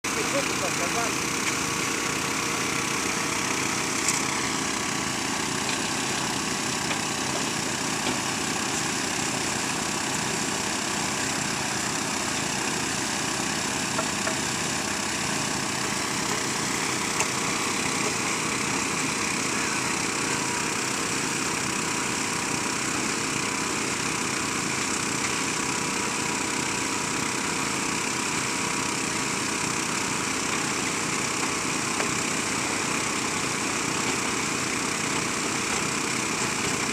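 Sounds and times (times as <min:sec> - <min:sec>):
small engine running steadily: 0:00.0 - 0:36.9.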